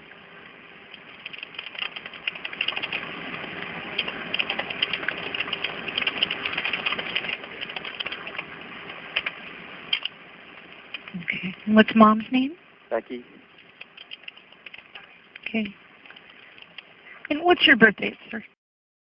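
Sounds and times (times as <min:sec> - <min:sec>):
crackling telephone line noise: 0:00.0 - 0:18.6.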